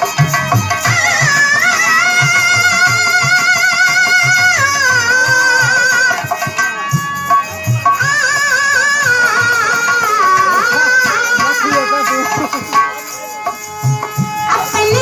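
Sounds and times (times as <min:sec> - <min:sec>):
hand drum beats: 0:00.0 - 0:15.0
wavering melody line: 0:00.5 - 0:15.0.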